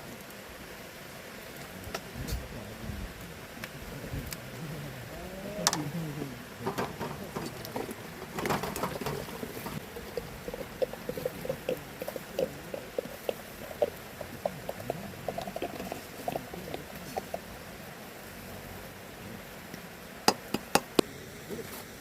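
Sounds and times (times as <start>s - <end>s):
fish grilling over crackling fire: 0.0s - 22.0s.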